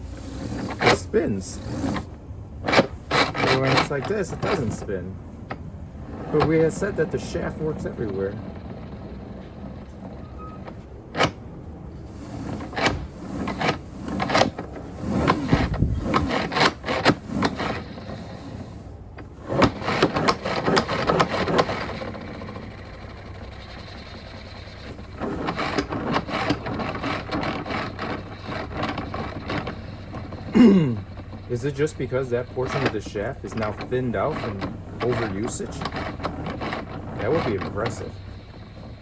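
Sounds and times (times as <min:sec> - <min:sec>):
plastic parts clicking and scraping: 0:00.0 - 0:39.0.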